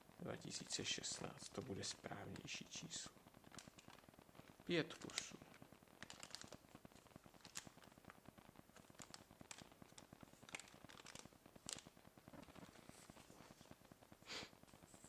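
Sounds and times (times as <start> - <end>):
plastic packaging crackling: 0.3 - 15.0.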